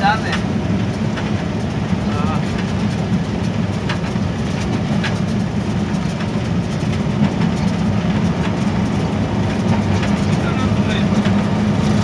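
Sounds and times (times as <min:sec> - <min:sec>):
locomotive low rumble: 0:00.0 - 0:12.0.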